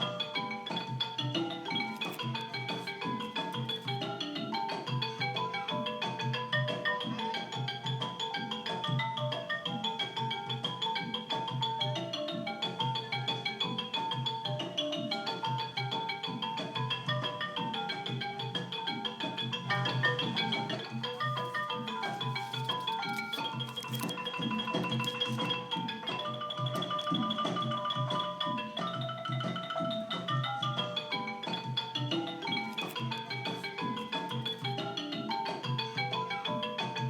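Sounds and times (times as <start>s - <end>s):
music with struck-note melody: 0.0s - 37.0s.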